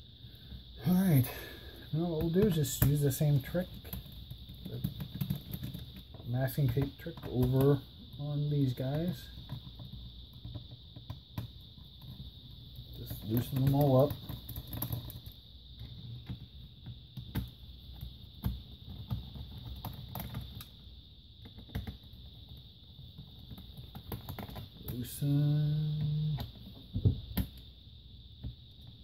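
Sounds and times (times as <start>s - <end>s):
steady high-pitched whine: 0.0s - 29.0s.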